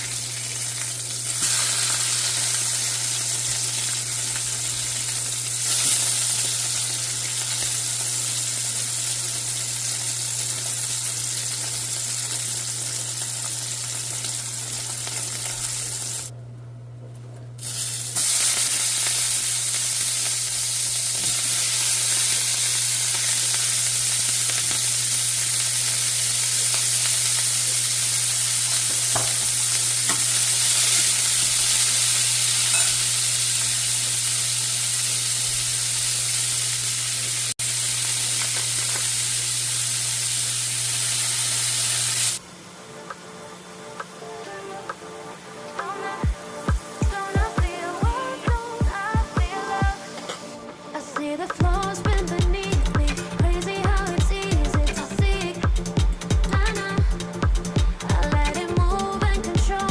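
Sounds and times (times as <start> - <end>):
food sizzling in a pan: 0.0 - 16.3, 17.6 - 42.7, 43.6 - 50.6, 51.6 - 59.9.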